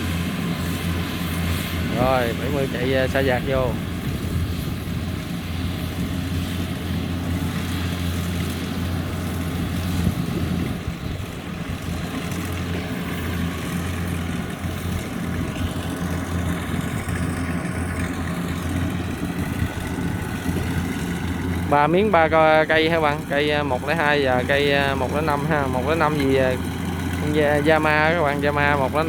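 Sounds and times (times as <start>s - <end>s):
combine harvester diesel engine: 0.0s - 29.0s.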